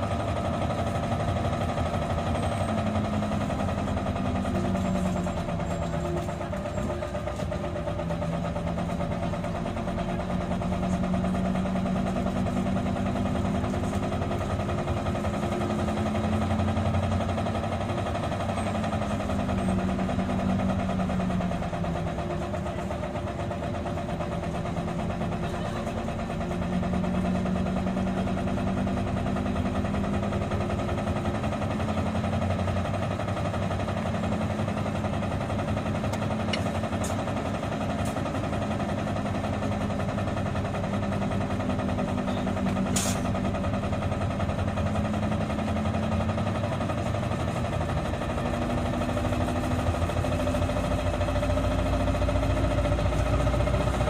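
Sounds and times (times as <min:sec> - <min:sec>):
bus diesel engine: 0:00.0 - 0:54.0
road noise: 0:00.0 - 0:54.0.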